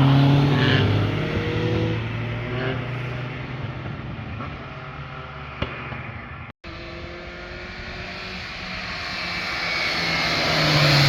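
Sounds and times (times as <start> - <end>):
car engine passing: 0.0 - 11.0.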